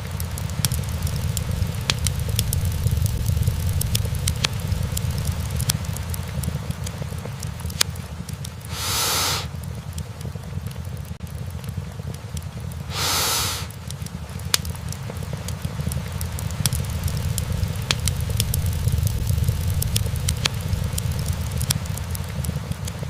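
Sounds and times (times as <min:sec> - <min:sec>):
fire hiss: 0:00.0 - 0:10.3, 0:12.7 - 0:23.0
logs crackling and popping: 0:00.0 - 0:23.0
low fire rumble: 0:00.0 - 0:23.0.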